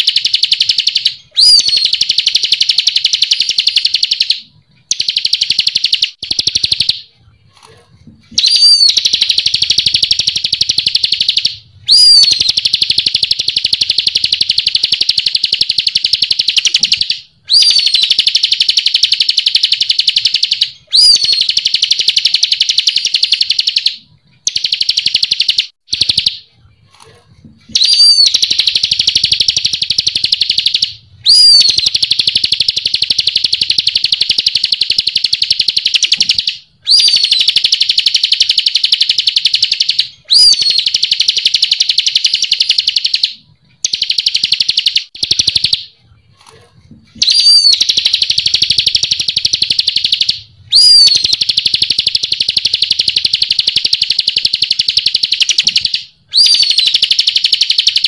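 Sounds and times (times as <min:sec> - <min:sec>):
bird singing fast trills: 0:00.0 - 0:07.0, 0:08.4 - 0:26.4, 0:27.8 - 0:45.8, 0:47.2 - 0:58.0.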